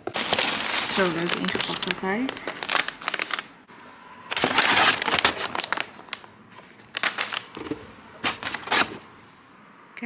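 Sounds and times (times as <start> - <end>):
paper packaging crinkling: 0.0 - 3.6, 4.3 - 9.0.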